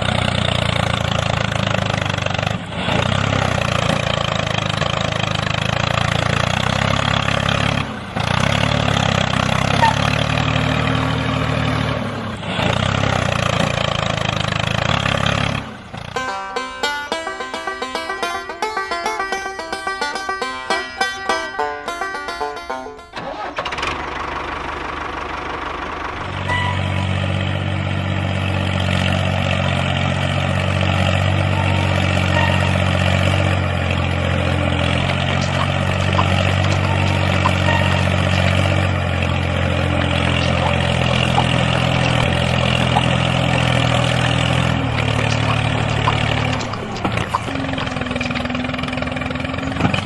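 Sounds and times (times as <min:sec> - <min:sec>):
engine running steadily: 0:00.0 - 0:50.0.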